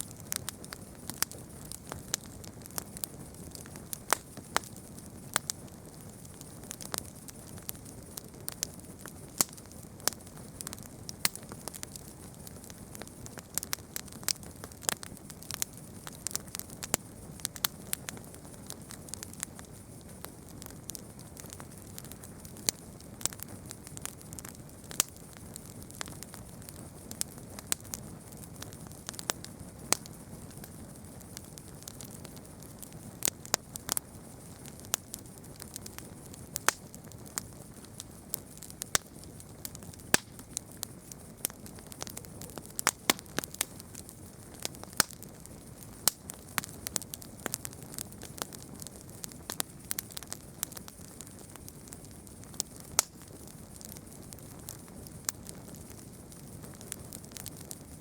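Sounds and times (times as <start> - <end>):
campfire crackling: 0.0 - 58.0
low hiss of burning: 0.0 - 58.0.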